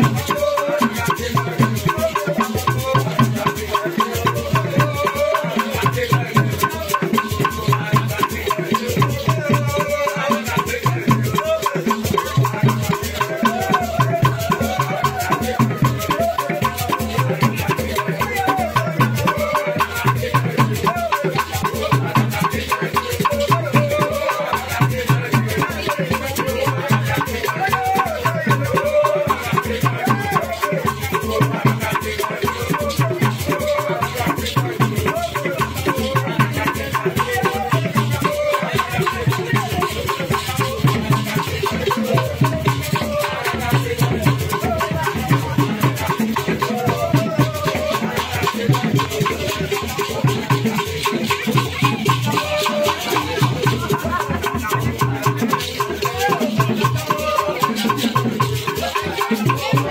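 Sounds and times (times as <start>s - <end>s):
shaken rattles: 0.0s - 59.9s
steady drum beat: 0.0s - 59.9s
voices singing: 0.0s - 59.9s.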